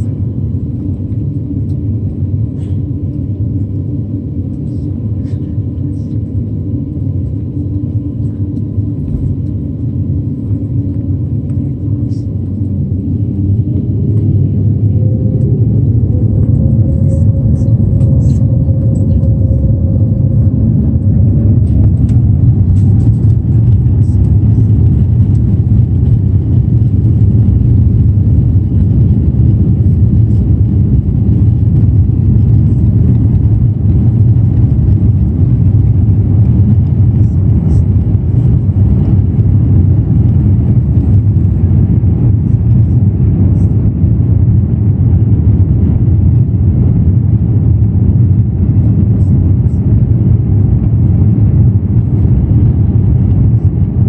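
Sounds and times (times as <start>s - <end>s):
jet engines low rumble: 0.0s - 54.0s.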